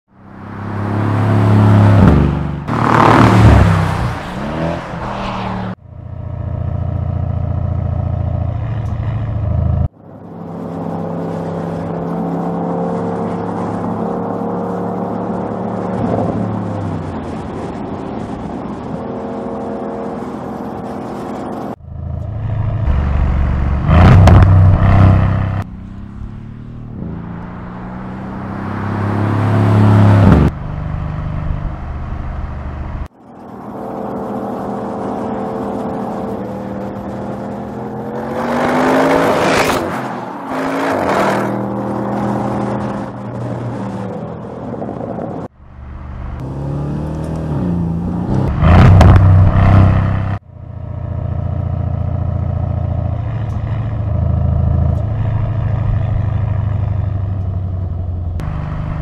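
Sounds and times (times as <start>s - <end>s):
car engines revving and accelerating: 0.2s - 5.8s, 8.4s - 50.4s, 51.0s - 59.0s.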